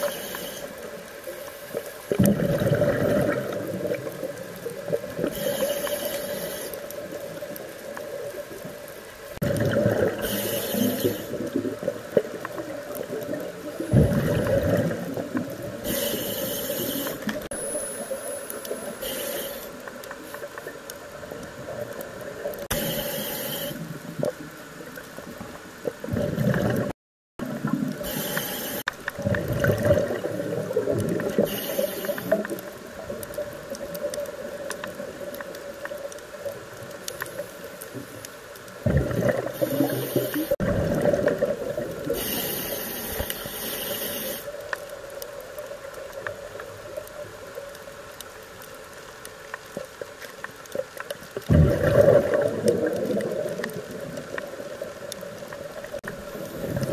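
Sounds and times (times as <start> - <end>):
regulator bubbles gurgling underwater: 0.0 - 47.9, 49.6 - 56.9
murky underwater noise: 0.0 - 56.9.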